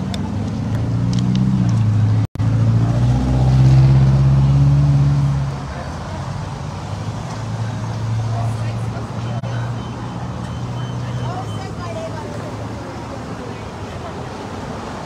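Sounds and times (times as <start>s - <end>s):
road traffic passing: 0.0s - 15.0s
vehicle engine humming: 0.0s - 15.0s.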